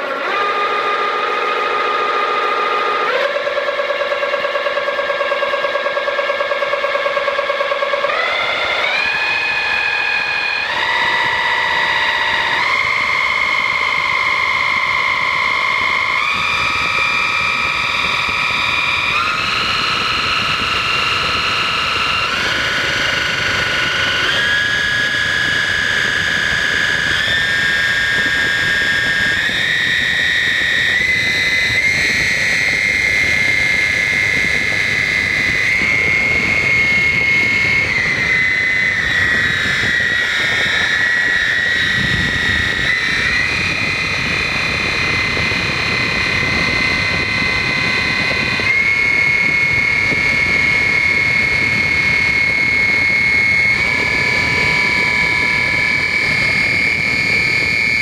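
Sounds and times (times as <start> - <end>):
electric ducted fan whine: 0.0 - 58.0.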